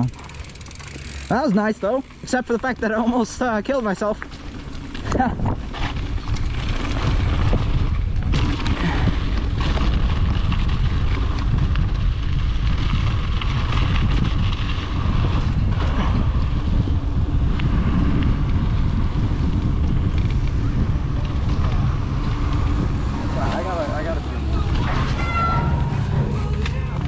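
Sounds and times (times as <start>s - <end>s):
bike clicks and rattles: 0.0s - 27.0s
wind buffeting microphone: 4.7s - 27.0s.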